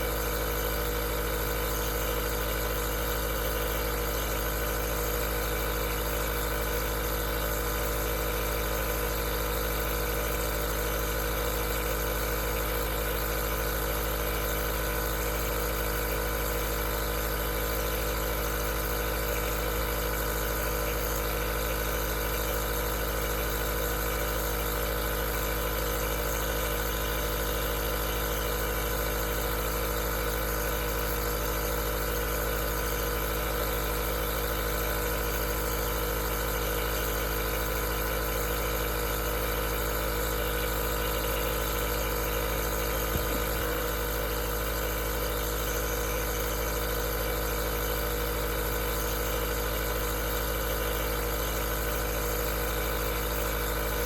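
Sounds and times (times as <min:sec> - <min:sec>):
nebulizer compressor humming: 0:00.0 - 0:54.0.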